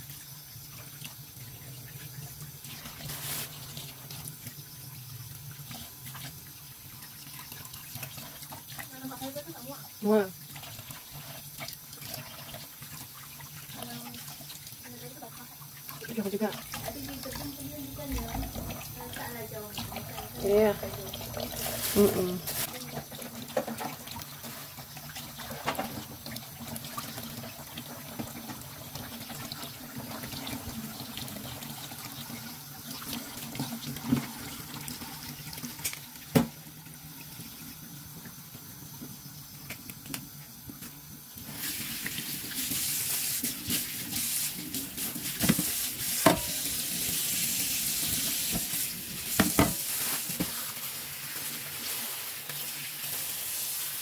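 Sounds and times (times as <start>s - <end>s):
tap water running into sink: 0.0s - 54.0s.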